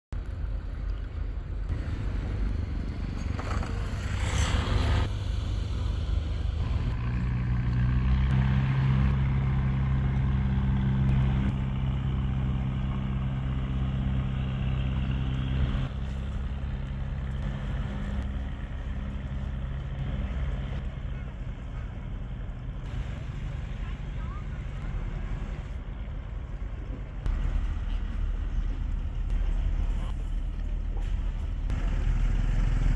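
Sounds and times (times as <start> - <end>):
boat engine running: 0.2 - 32.9.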